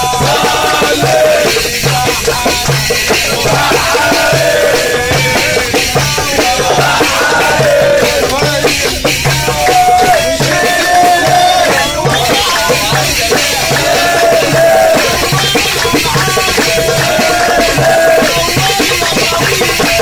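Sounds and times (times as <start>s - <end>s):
crowd singing and chanting: 0.0s - 20.0s
hand clapping: 0.0s - 20.0s
steady drum beat: 0.0s - 20.0s.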